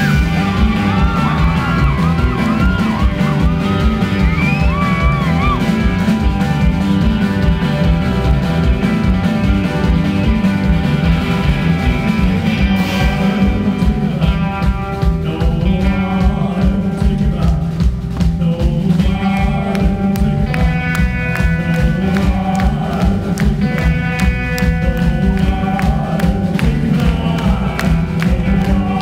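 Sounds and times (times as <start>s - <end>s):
drum beat: 0.0s - 29.0s
guitar: 0.0s - 29.0s.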